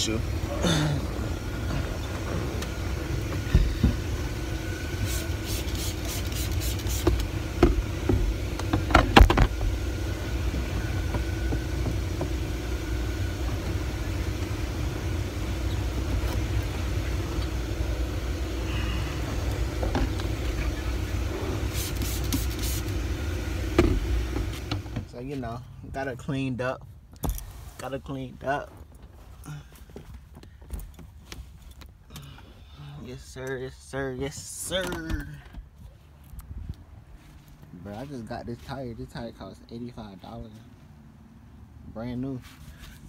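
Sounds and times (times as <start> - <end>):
truck engine rumbling: 0.0 - 43.0.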